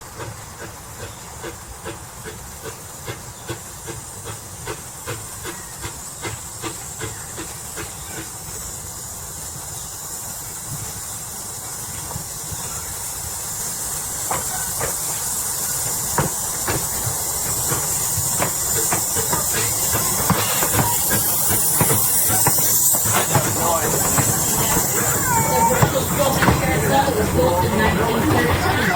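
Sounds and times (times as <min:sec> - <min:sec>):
steam locomotive hissing: 0:00.0 - 0:28.9.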